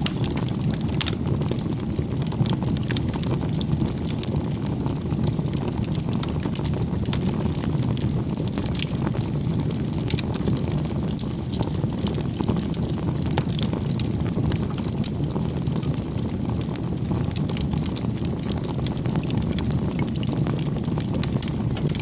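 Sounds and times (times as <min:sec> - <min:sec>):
fire crackling pops: 0:00.0 - 0:22.0
wood fire rumbling: 0:00.0 - 0:22.0.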